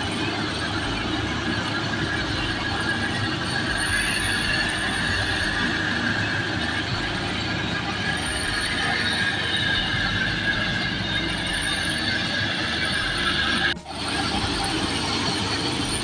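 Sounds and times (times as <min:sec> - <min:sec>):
combine harvester clatter: 0:00.0 - 0:16.0
high-pitched machine whine: 0:00.0 - 0:16.0.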